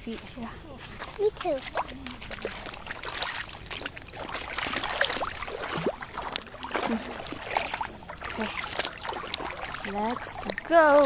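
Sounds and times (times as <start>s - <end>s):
river water splashing: 0.0s - 11.0s.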